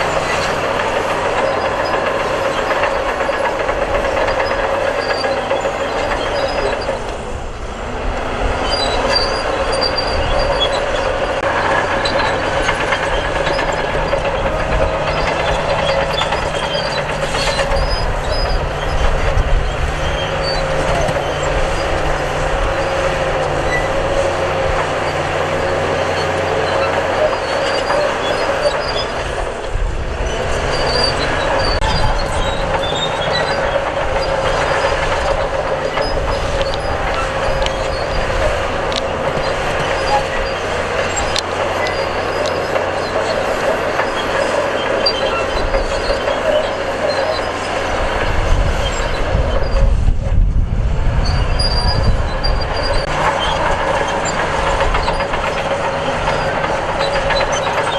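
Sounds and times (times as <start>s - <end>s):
bulldozer diesel engine running: 0.0s - 57.9s
crawler tracks squealing and clanking: 0.0s - 57.9s.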